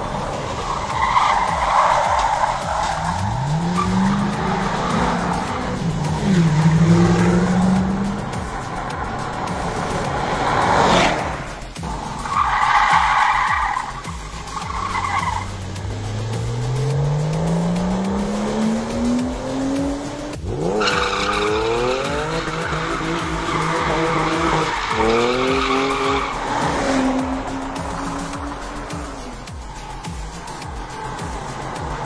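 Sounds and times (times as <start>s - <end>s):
car engine revving: 0.0s - 32.0s
tyres spinning: 0.0s - 32.0s
tyres squealing: 0.0s - 32.0s.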